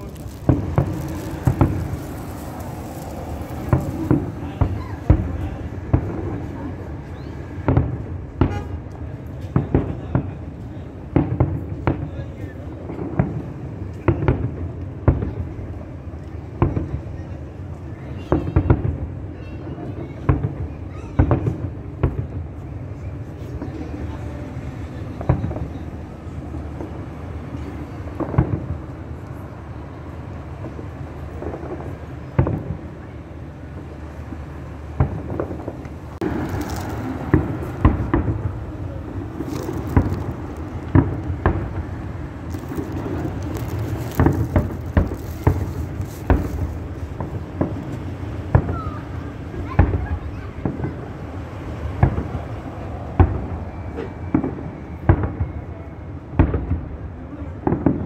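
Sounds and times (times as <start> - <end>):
fireworks booming: 0.0 - 58.0.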